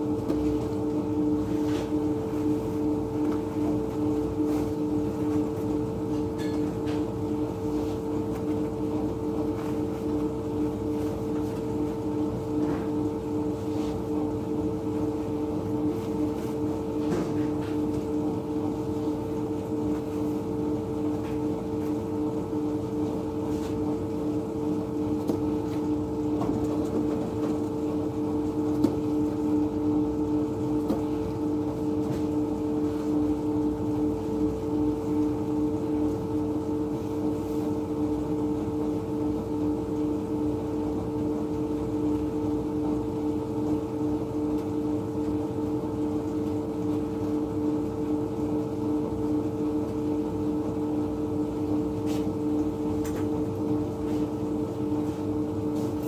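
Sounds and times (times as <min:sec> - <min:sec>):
bakery machinery humming: 0:00.0 - 0:56.0.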